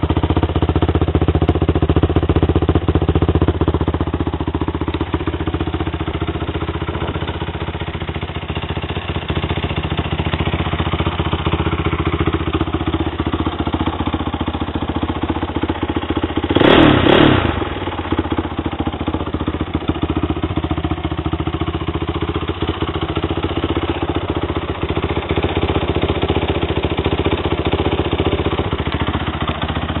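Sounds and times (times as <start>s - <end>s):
quad engine idling: 0.0s - 30.0s.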